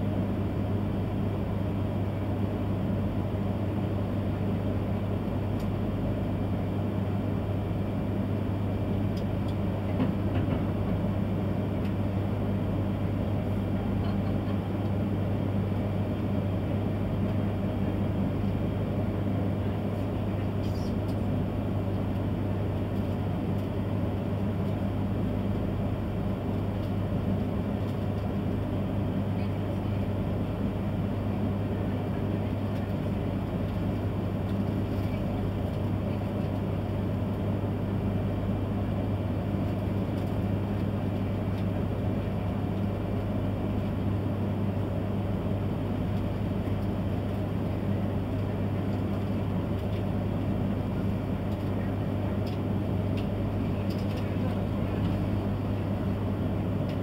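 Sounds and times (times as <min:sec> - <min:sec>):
train cabin hum: 0:00.0 - 0:57.0.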